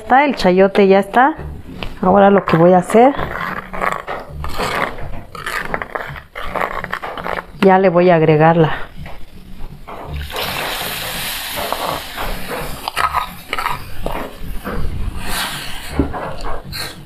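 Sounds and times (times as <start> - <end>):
spatula scraping pan: 0.0 - 17.0.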